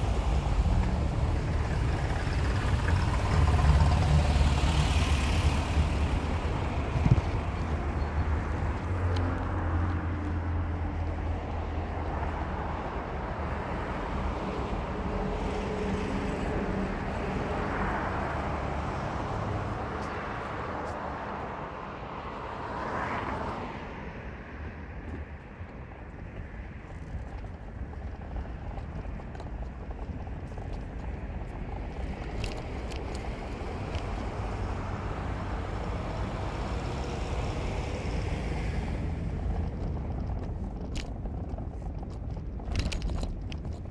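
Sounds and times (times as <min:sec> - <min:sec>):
car engine: 0:00.0 - 0:21.6, 0:26.7 - 0:43.9
road noise: 0:00.0 - 0:43.9.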